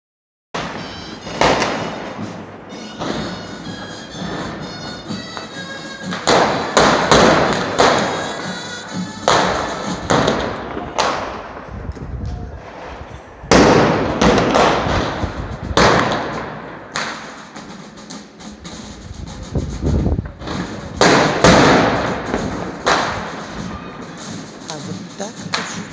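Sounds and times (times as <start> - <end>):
firecracker bangs echoing: 0.6 - 18.9, 20.1 - 25.9.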